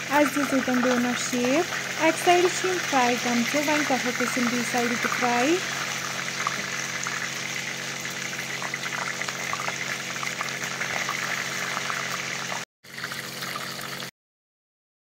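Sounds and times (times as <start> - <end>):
patties sizzling in hot oil: 0.0 - 14.1.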